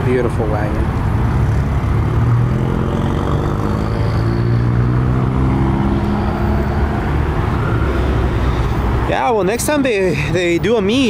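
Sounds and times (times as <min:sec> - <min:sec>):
car engines passing: 0:00.0 - 0:11.0.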